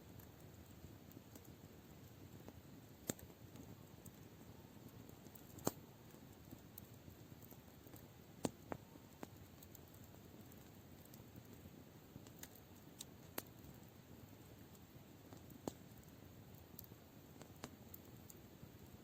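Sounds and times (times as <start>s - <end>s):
campfire hissing: 0.0s - 19.0s
fire popping: 0.0s - 19.0s.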